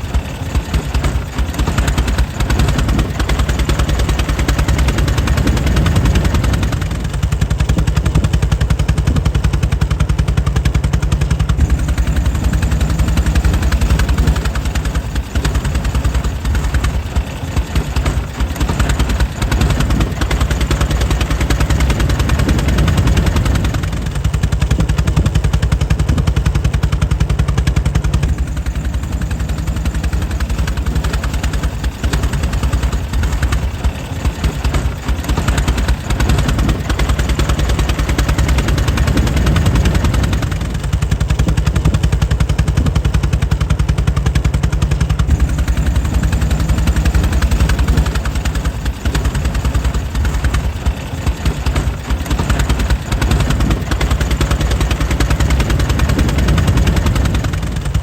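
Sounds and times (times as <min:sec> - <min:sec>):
air-cooled engine running: 0:00.0 - 0:58.0.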